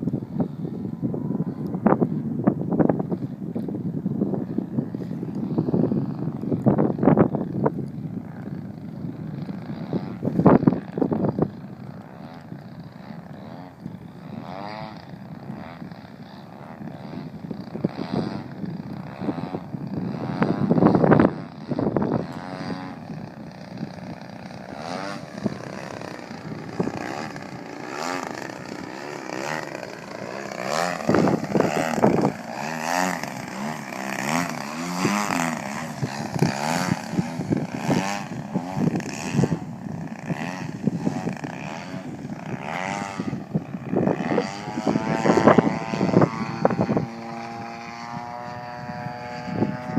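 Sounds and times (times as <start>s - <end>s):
model plane propeller buzzing: 0.0s - 49.9s.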